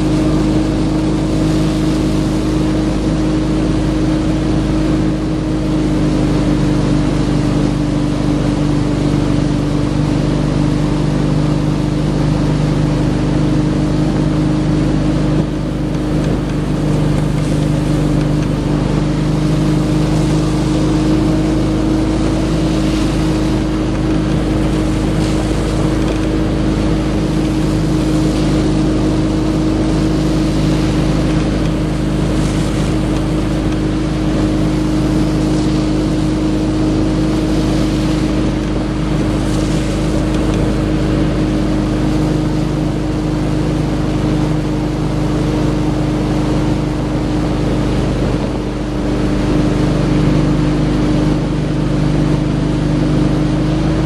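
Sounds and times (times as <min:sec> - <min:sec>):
boat engine droning: 0:00.0 - 0:54.0
wake rushing: 0:00.0 - 0:54.0.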